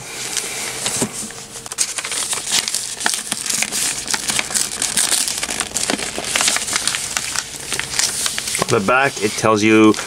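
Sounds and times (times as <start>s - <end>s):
stiff paper crinkling: 0.4s - 10.0s.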